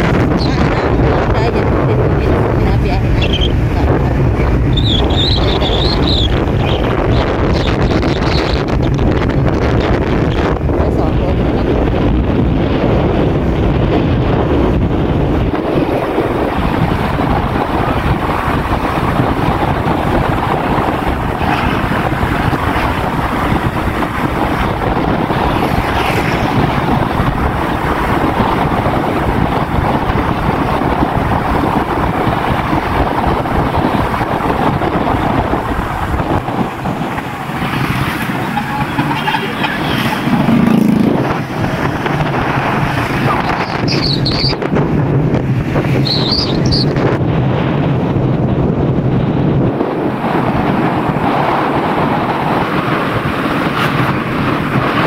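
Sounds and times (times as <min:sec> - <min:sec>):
moving vehicle noise: 0:00.0 - 0:55.0
wind buffeting microphone: 0:00.0 - 0:55.0.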